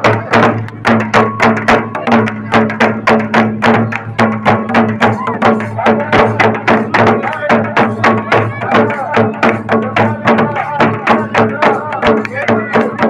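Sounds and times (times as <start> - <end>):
fast folk drumming: 0.0 - 13.0.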